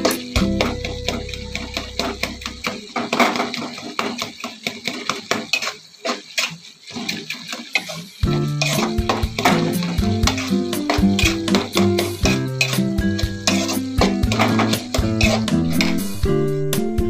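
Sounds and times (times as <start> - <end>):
metal spoon scraping a pan: 0.0 - 16.4
food frying in oil: 0.0 - 16.9.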